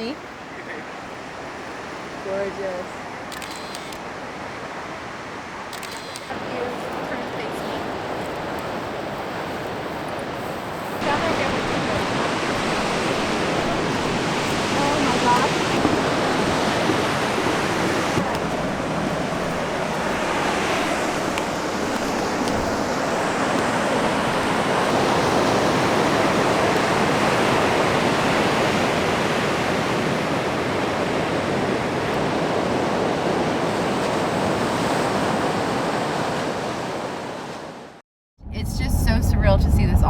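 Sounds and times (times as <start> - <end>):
ocean waves rushing: 0.0 - 38.0.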